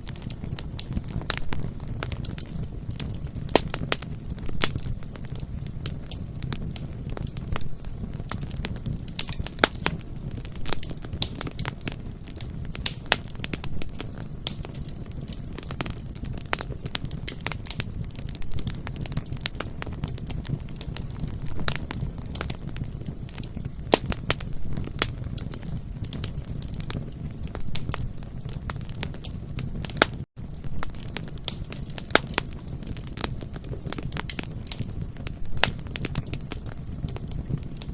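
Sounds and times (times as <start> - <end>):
bonfire low rumble: 0.0 - 37.9
wood crackling and popping: 0.0 - 37.9.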